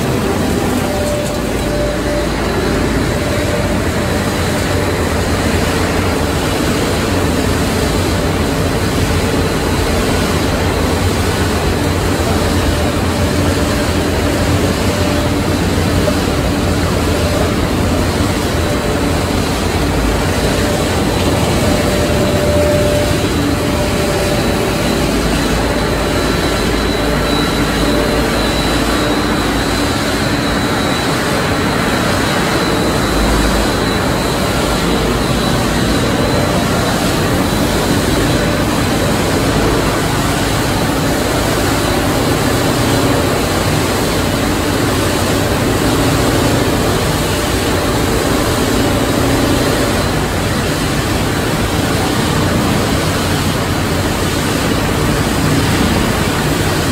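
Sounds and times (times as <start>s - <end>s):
industrial machinery noise: 0.0s - 56.9s
thin high whine: 0.0s - 56.9s.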